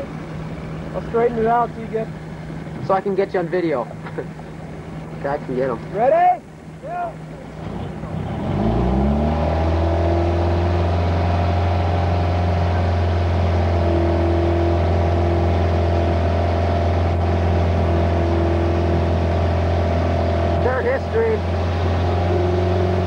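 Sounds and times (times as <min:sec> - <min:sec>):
motorboat engine at high throttle: 0:00.0 - 0:23.0.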